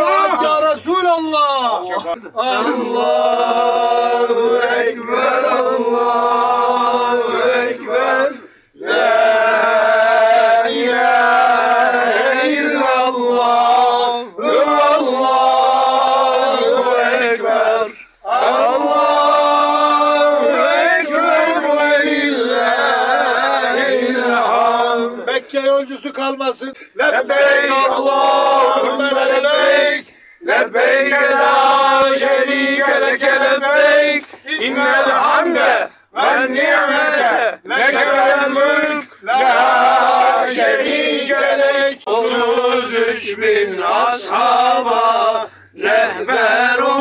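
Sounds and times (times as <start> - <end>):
men chanting together: 1.9 - 47.0.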